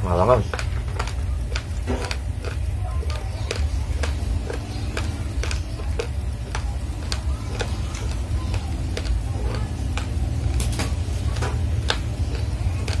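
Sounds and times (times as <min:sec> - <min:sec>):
rice grains crunching in mouth: 0:00.1 - 0:13.0.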